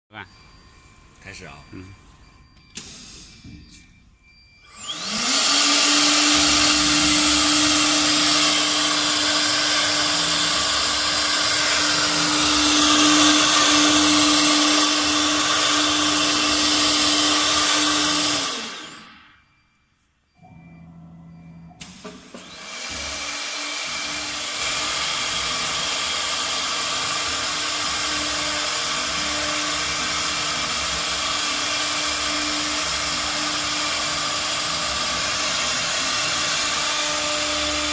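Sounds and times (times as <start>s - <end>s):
router spindle whining: 4.4s - 19.6s, 20.3s - 37.9s.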